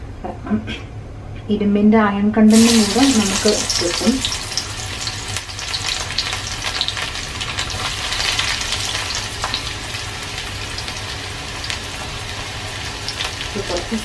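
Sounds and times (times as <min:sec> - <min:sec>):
onion sizzling in hot oil: 0:02.5 - 0:14.0.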